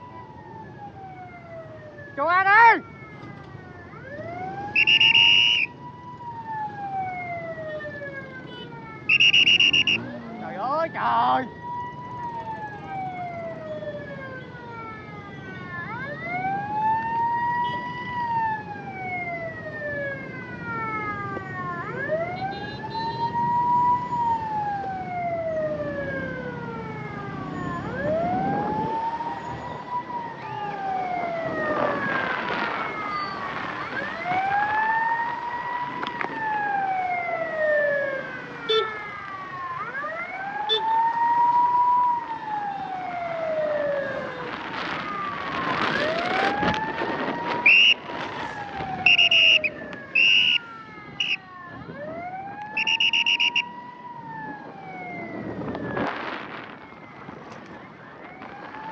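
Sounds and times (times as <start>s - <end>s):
ambulance siren wailing: 0.0s - 58.9s
traffic noise: 0.0s - 58.9s.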